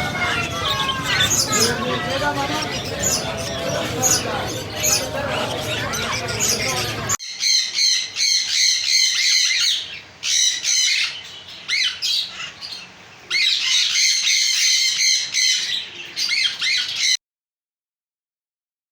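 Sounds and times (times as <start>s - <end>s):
caged birds squawking and chirping: 0.0s - 17.2s.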